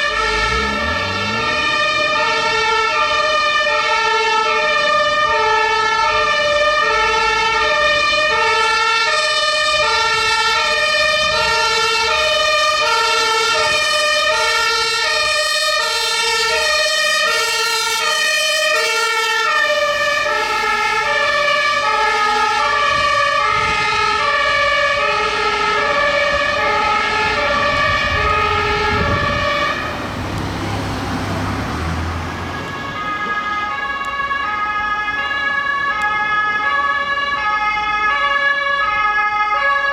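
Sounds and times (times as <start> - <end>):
low vehicle rumble: 0.0 - 8.4, 9.6 - 39.2
two-tone emergency siren: 0.0 - 39.9.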